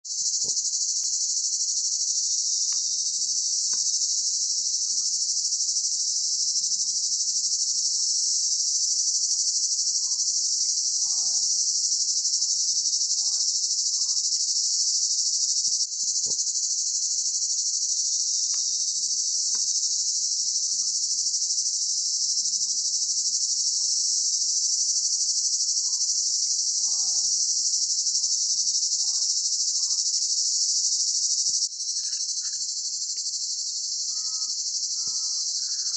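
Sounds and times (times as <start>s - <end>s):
insects shrilling: 0.1s - 35.9s.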